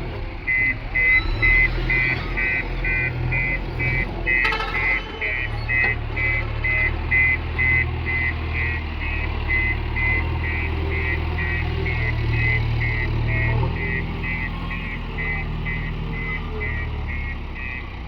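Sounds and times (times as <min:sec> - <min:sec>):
diesel engine running: 0:00.0 - 0:18.0
reversing alarm beeping: 0:00.0 - 0:18.0.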